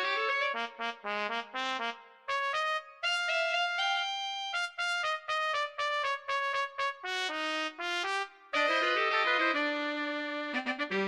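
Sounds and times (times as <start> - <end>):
trumpet playing jazz-funk melody: 0.0 - 11.0.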